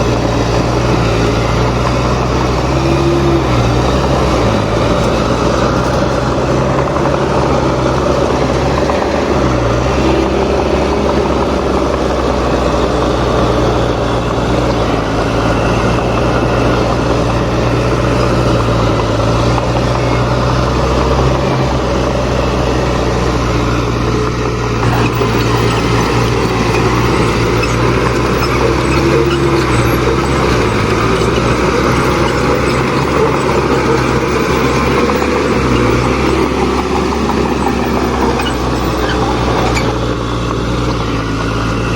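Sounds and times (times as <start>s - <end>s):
heavy diesel machines running: 0.0s - 41.9s.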